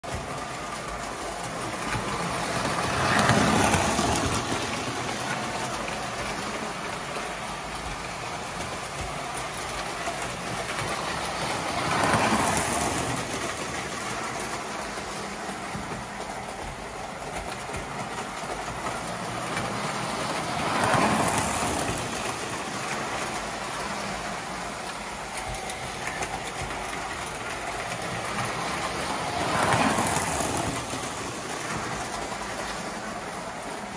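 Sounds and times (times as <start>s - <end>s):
toy train rolling on metal track: 0.0s - 33.9s.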